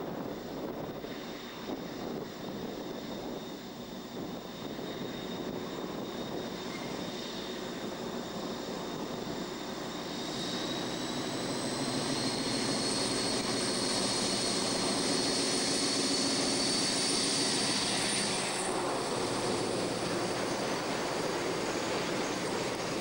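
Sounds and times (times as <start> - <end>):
diesel locomotive engine under load: 0.0 - 23.0.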